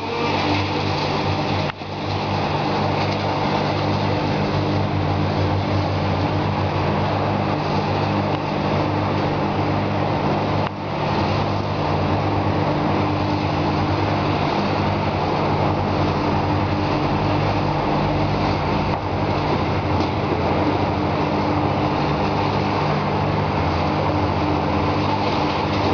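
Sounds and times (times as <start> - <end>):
engine running steadily: 0.0 - 25.9.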